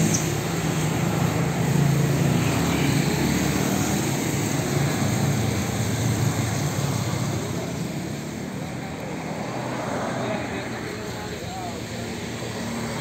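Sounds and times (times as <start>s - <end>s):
cars and motorcycles passing: 0.0s - 13.0s.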